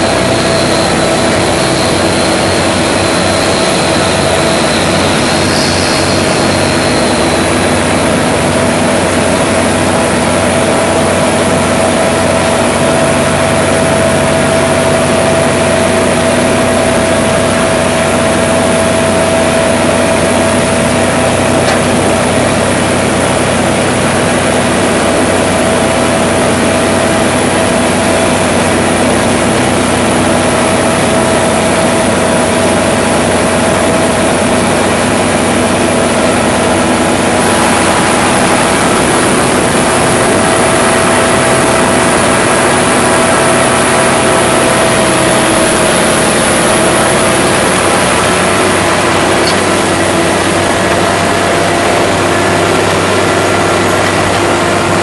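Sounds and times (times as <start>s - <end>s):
machine whine: 0.0s - 55.0s
tractor engine drone: 0.0s - 55.0s.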